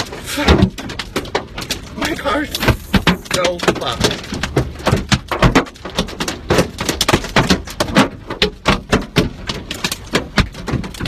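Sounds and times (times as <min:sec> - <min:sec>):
hail drumming on car roof: 0:00.0 - 0:11.0.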